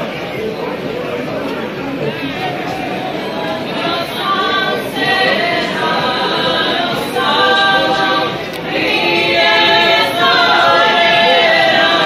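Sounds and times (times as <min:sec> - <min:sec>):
women singing folk song: 0:02.1 - 0:12.0.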